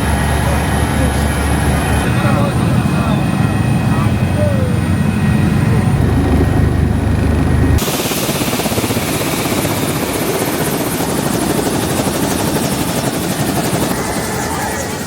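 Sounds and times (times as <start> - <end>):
helicopter running: 0.0 - 15.0.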